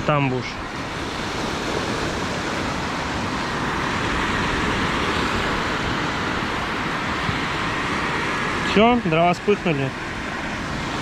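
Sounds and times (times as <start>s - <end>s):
fan blowing air into campfire: 0.0s - 11.0s.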